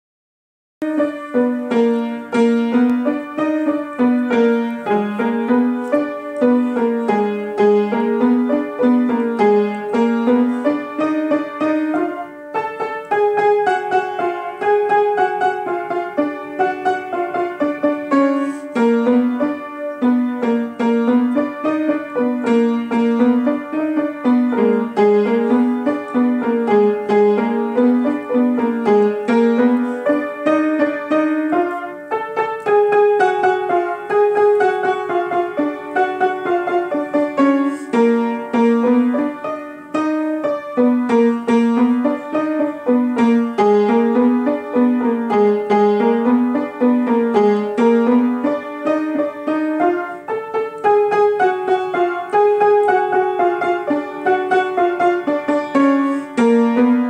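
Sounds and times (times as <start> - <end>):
solo piano: 0.8 - 57.0.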